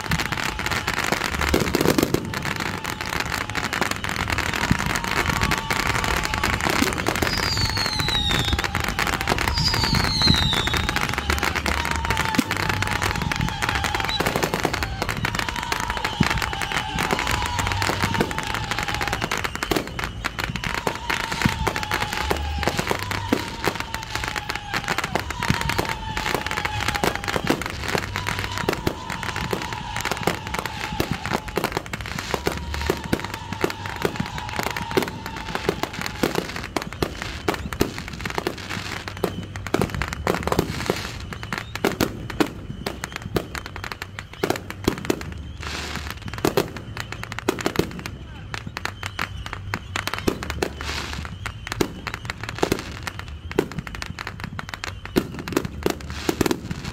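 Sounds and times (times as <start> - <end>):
falling firework whistles: 0.0 - 56.9
fireworks launches and crackling bursts: 0.0 - 56.9.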